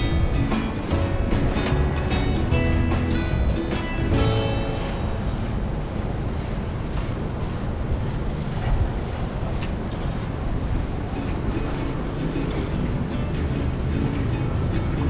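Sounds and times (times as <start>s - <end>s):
traffic rumble: 0.0s - 15.0s
wind: 0.0s - 15.0s.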